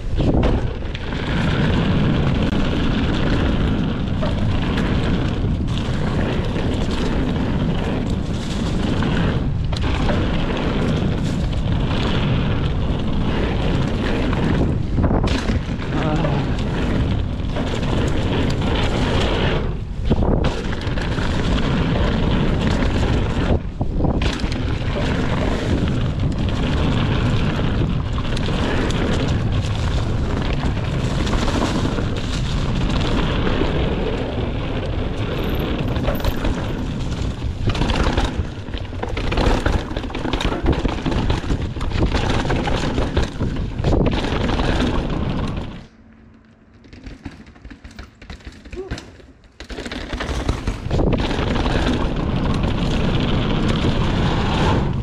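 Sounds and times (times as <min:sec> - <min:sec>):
wind buffeting microphone: 0:00.0 - 0:45.9, 0:50.5 - 0:55.0
bike rattling: 0:00.0 - 0:55.0
tyres rumbling on leaves and dirt: 0:00.0 - 0:55.0.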